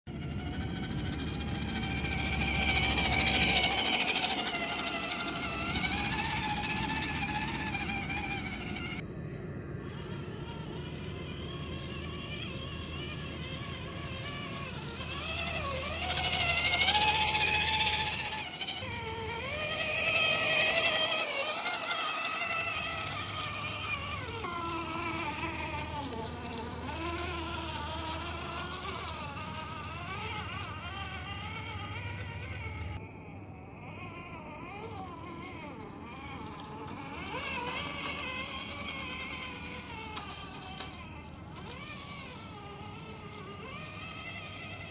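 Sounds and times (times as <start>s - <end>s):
electric motor and gears whining: 0.1s - 44.9s.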